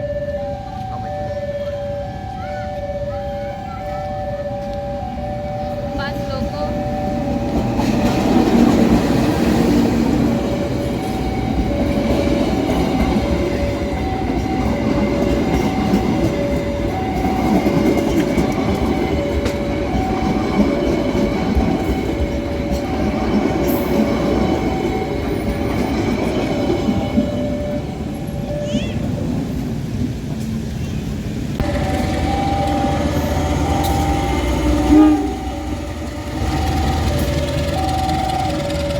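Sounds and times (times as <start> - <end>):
two-tone electronic warning signal: 0.0 - 29.2, 31.6 - 38.9
train rumbling past on rails: 0.0 - 38.9.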